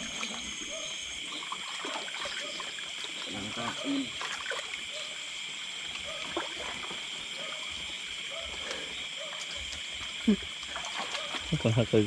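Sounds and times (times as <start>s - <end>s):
frogs croaking: 0.0s - 12.0s
high-pitched insect drone: 0.0s - 12.0s.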